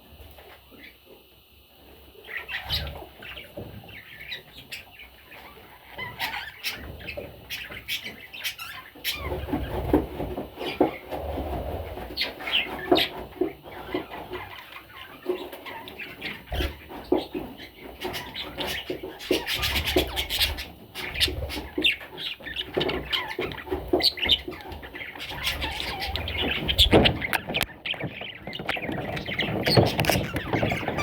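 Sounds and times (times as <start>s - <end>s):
bird chicks chirping and squawking: 1.9s - 31.0s
scratching and rustling: 2.6s - 31.0s.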